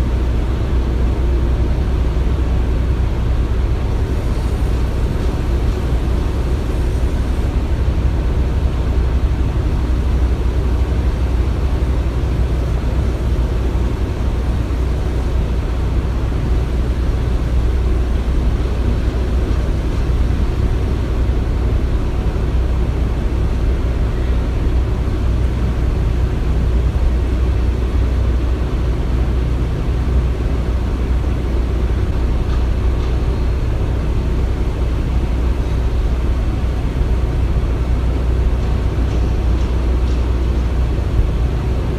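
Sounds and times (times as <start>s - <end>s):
deep machinery rumble: 0.0s - 41.9s.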